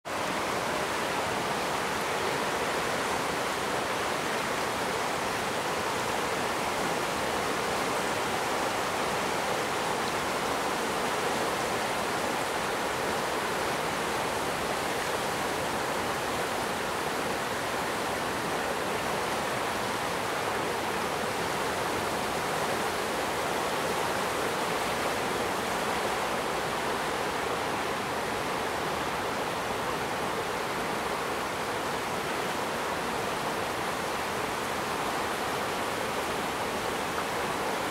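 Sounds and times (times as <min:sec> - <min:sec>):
flooded river rushing: 0:00.1 - 0:37.9.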